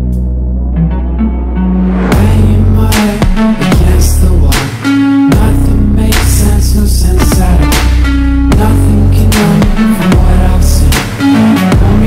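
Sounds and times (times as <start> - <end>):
electronic song with bass and drums: 0.0 - 12.0.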